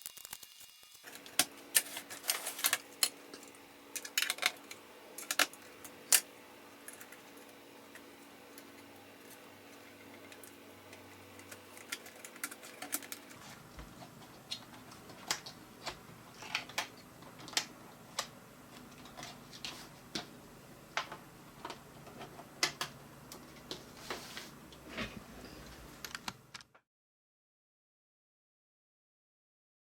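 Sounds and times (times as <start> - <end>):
faint hum: 0.6 - 26.7.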